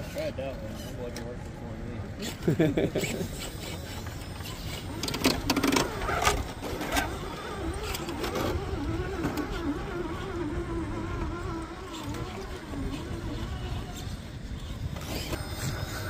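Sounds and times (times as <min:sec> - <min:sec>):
electric motor whining: 0:02.2 - 0:16.0.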